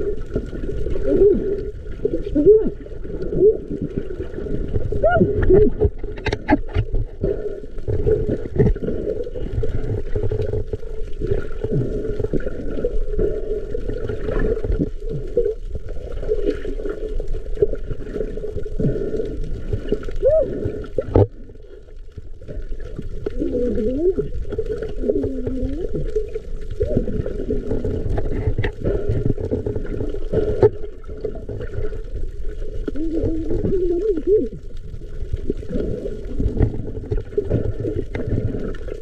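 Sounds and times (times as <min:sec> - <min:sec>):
underwater gurgling and bubbling: 0:00.0 - 0:39.0.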